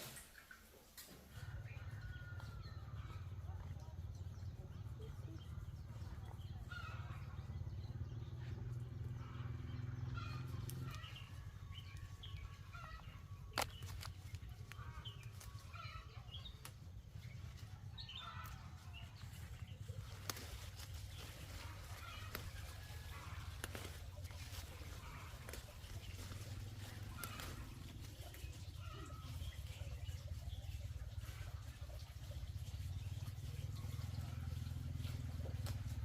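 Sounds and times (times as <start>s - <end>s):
chickens clucking: 0.8s - 36.0s.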